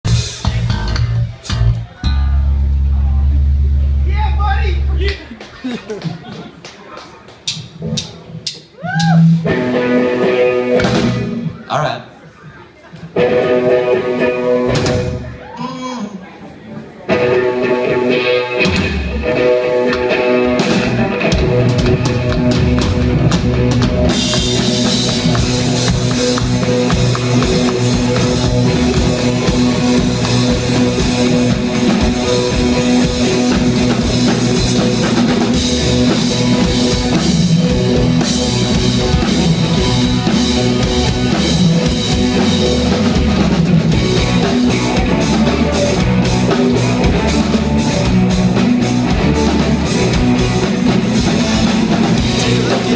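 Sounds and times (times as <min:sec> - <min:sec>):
live rock band playing: 0:00.0 - 0:06.7, 0:07.3 - 0:52.9.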